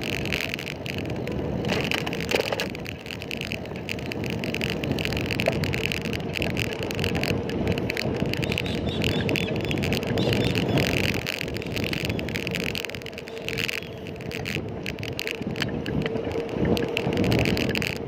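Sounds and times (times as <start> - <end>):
bicycle tyres on road: 0.0 - 18.0.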